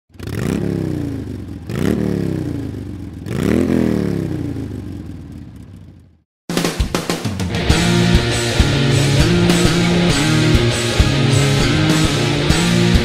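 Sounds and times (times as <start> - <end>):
motorcycle engine revving: 0.1 - 6.3, 7.2 - 13.0.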